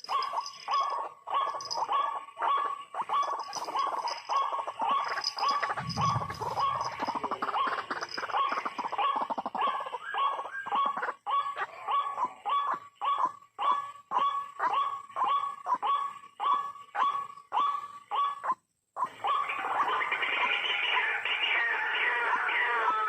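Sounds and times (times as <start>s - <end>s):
bird croaking calls: 0.0s - 23.0s.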